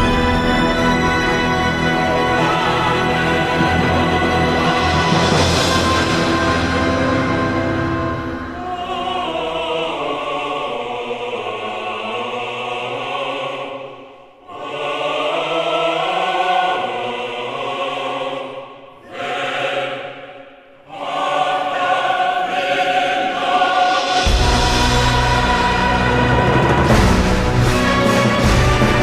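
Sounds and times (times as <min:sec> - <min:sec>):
choir singing long notes: 0:00.0 - 0:29.0.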